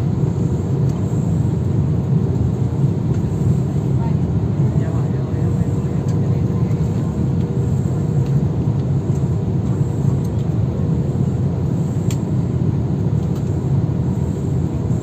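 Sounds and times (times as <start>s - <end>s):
airliner engines rumbling: 0.0s - 15.0s.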